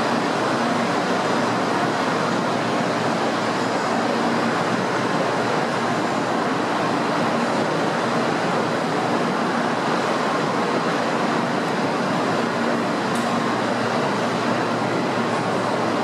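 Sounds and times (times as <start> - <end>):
train rumbling hiss: 0.0 - 16.0.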